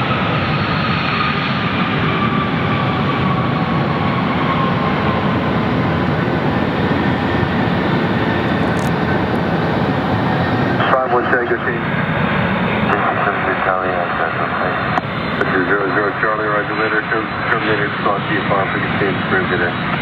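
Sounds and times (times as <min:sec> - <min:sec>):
jet airliner engines: 0:00.0 - 0:20.0.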